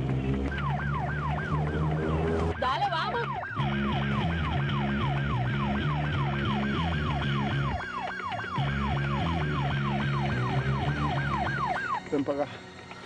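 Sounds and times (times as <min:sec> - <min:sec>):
police siren yelping: 0:00.0 - 0:12.3
low sustained notes: 0:00.0 - 0:13.0.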